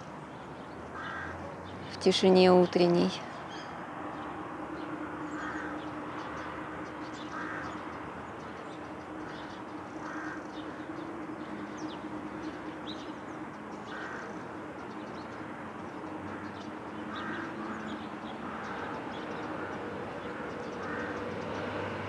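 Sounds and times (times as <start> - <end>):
bird calls: 0.0 - 2.0, 2.9 - 21.8
steady low hum: 0.0 - 21.4
small birds chirping: 0.0 - 22.0.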